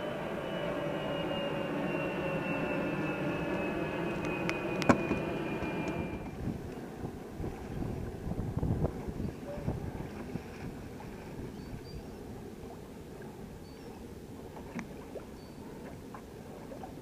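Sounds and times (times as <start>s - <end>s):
wind on microphone: 0.0s - 15.2s
boat motor whine: 0.0s - 17.0s
water slapping hull: 0.1s - 17.0s.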